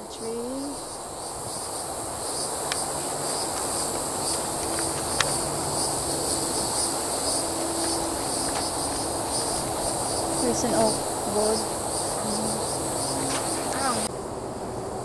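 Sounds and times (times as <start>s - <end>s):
background hiss: 0.0s - 15.0s
insects chorus: 0.0s - 15.0s.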